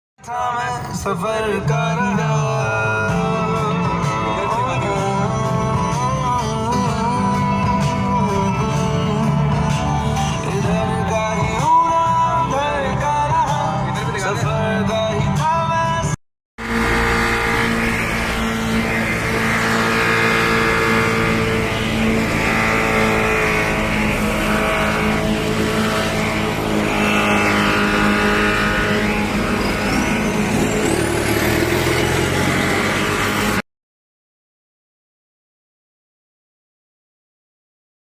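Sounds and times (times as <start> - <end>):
road noise: 0.2 - 33.6
car engine: 0.4 - 33.6.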